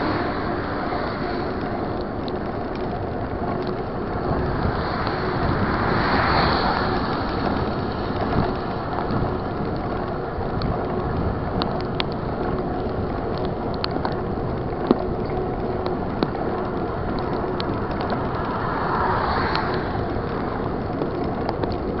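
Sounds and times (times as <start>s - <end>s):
bike clicks and rattles: 0.0s - 22.0s
tyre and wind rumble: 0.0s - 22.0s.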